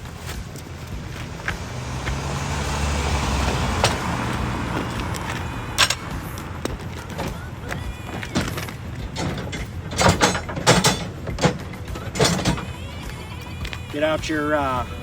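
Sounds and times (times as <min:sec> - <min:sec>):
metal tools clanking: 0:00.0 - 0:15.0.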